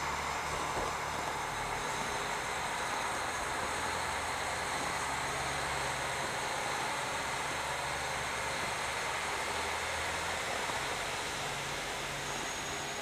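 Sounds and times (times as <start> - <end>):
diesel railcar engine hum: 0.0 - 13.0.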